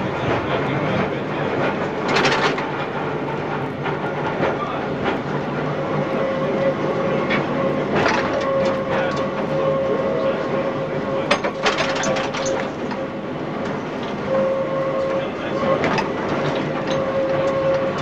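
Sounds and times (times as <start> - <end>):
wheels clicking on rails: 0.0 - 10.4, 11.1 - 14.2, 15.0 - 18.0
tram rumble: 0.0 - 18.0.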